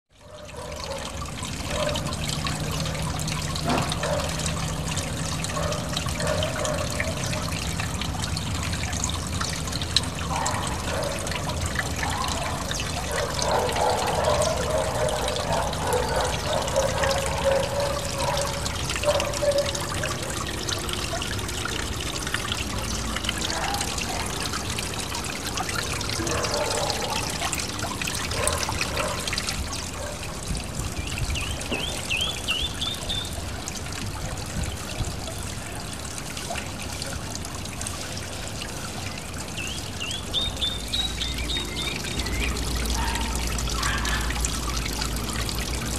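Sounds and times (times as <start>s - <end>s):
waterfall splashing into pond: 0.1s - 45.9s.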